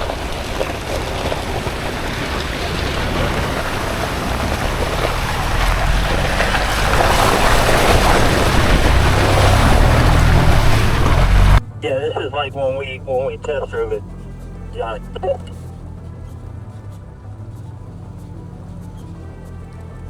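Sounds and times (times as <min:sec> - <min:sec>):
tyres rumbling on dirt track: 0:00.0 - 0:20.0.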